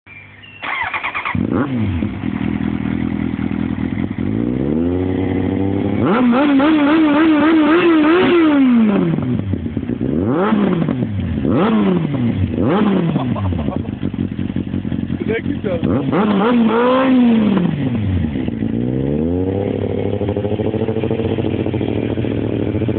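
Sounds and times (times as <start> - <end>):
engine throttle blips: 0.2 - 22.9
loud motorcycle engine revving: 0.6 - 22.9.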